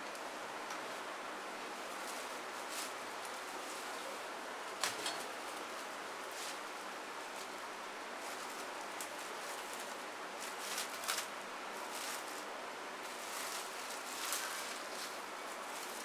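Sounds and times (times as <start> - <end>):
cling film rustling and crinkling: 1.6 - 16.0.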